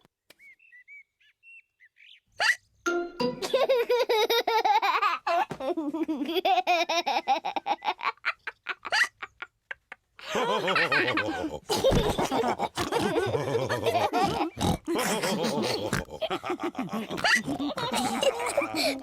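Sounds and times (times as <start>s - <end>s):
cartoon pigs laughing: 3.4s - 19.0s.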